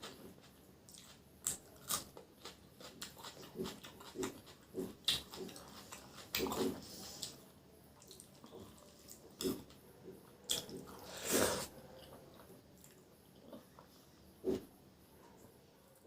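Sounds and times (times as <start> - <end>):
person chewing and smacking: 0.0 - 7.4, 8.0 - 13.9.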